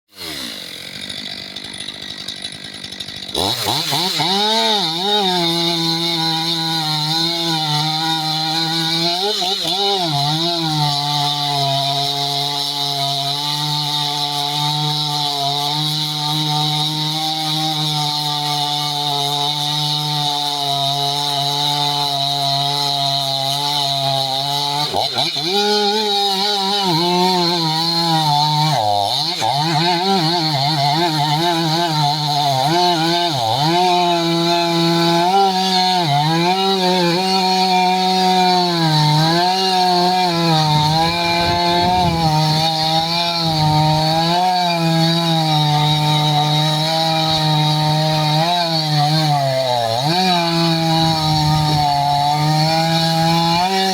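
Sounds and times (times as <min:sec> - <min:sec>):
chainsaw cutting wood: 0:00.1 - 0:53.9.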